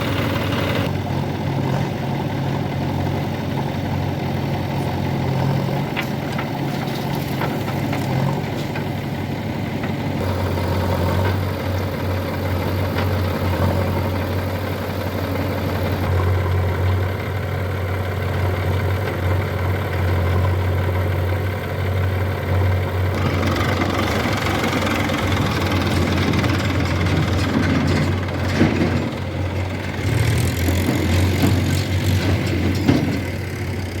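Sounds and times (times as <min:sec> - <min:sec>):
heavy machinery diesel engine running: 0:00.0 - 0:34.0.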